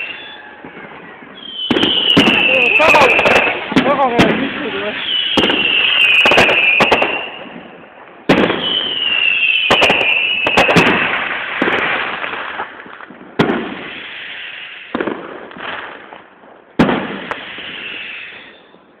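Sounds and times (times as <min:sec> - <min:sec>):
firework crackling hiss: 0:00.0 - 0:00.7, 0:01.3 - 0:18.8
whistling fireworks: 0:00.0 - 0:19.0.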